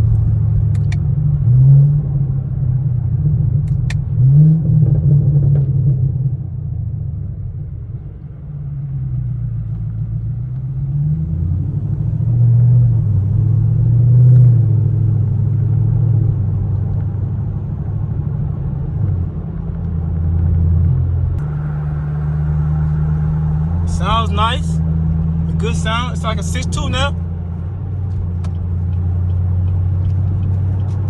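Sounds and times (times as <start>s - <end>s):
car exhaust rumble: 0.0s - 31.0s.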